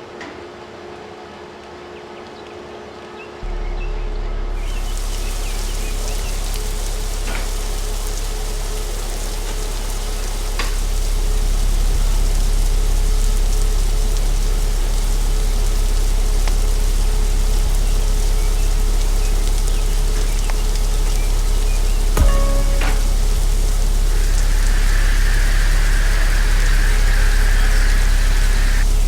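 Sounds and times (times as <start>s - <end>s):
low machinery hum: 2.7s - 29.0s
water spray hissing: 4.6s - 29.0s.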